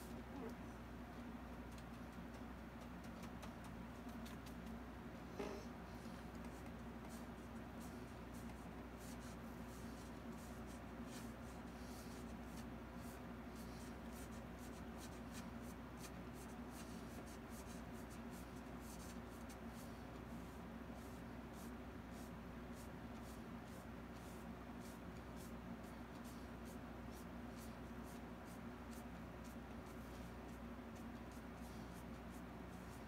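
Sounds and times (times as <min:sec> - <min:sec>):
low room hum: 0:00.0 - 0:33.0
paintbrush scratching canvas: 0:06.0 - 0:33.0.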